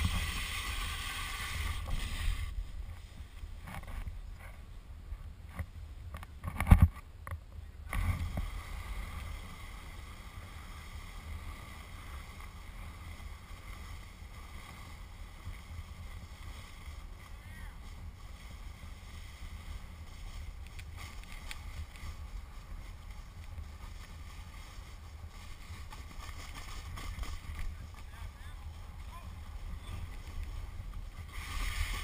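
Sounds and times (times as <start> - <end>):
snowboard scraping over snow: 0.0 - 5.9, 7.9 - 32.0
wind rumble on microphone: 0.0 - 32.0.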